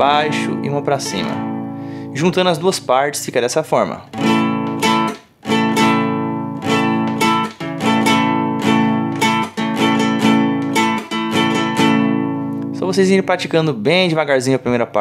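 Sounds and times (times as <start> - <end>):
acoustic guitar strummed chords: 0.0 - 3.4, 4.1 - 12.9
muted guitar strings: 0.0 - 14.2.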